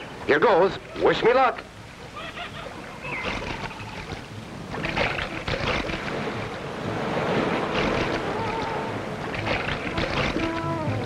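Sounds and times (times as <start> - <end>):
sea surf waves splashing: 0.0 - 11.0.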